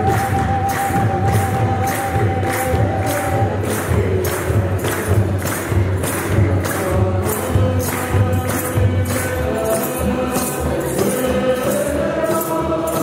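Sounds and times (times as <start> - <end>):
drums beaten in steady rhythm: 0.0 - 13.0
voices singing: 0.0 - 13.0.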